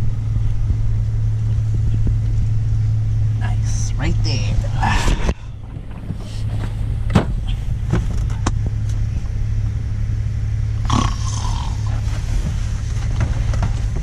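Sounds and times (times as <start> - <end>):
van engine humming: 0.0 - 14.0.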